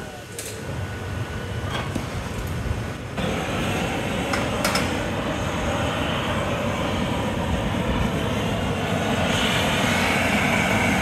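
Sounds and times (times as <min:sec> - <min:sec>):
background drone: 0:00.0 - 0:11.0
gas torch hissing: 0:00.0 - 0:11.0.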